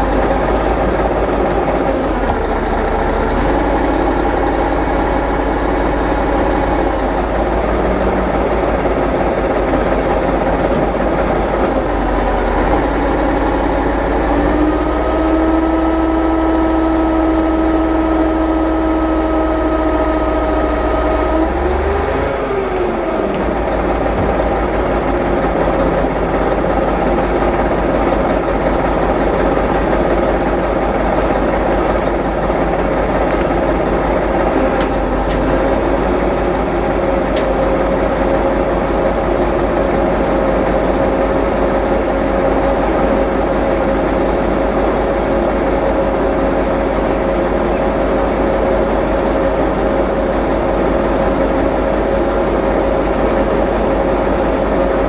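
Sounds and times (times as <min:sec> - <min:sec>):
constant engine whine: 0:00.0 - 0:55.0
large vehicle engine idling: 0:00.0 - 0:55.0.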